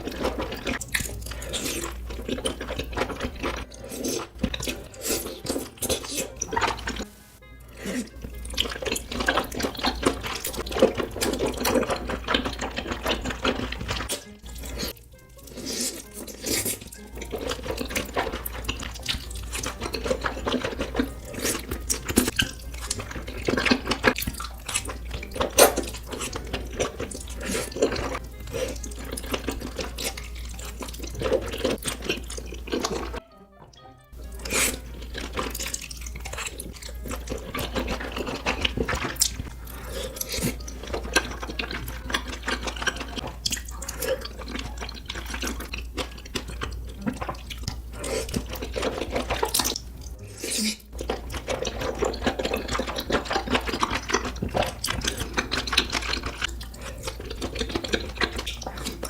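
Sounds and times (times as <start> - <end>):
person chewing food: 0.0 - 33.2, 33.8 - 59.0.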